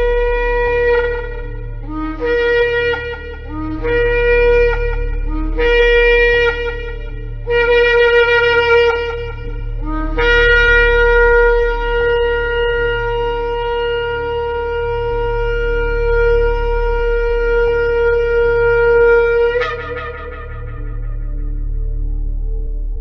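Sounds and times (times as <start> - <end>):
shofar blast: 0.0 - 21.8.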